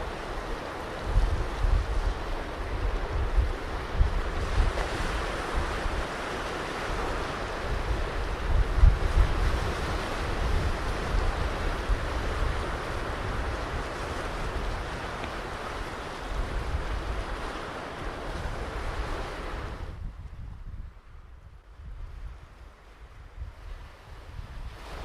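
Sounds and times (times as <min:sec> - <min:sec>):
ocean surf on beach: 0:00.0 - 0:25.0
wind rumbling on microphone: 0:00.0 - 0:25.0.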